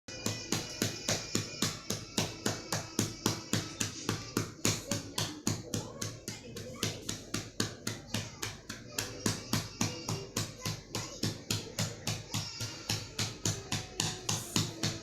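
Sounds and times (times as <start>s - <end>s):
cupped-hand patting: 0.1s - 15.0s.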